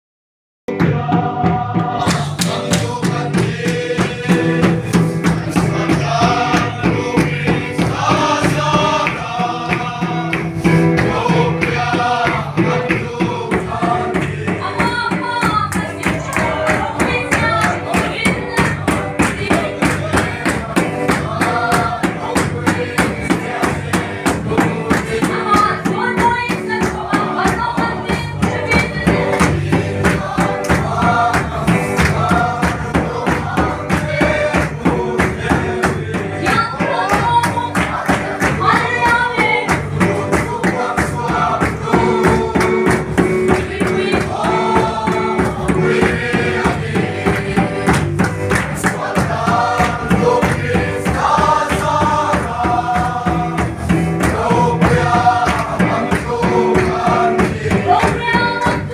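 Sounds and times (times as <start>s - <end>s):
fast drum beat: 0.7s - 58.9s
instrumental backing: 0.7s - 58.9s
voices singing gospel song: 0.7s - 58.9s.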